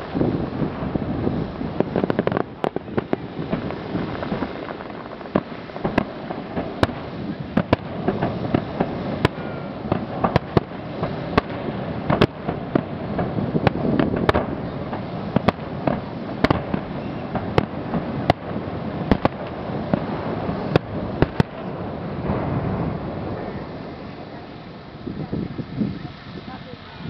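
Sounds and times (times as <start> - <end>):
continuous low rumble: 0.0 - 27.0
fireworks bursting: 0.0 - 27.0.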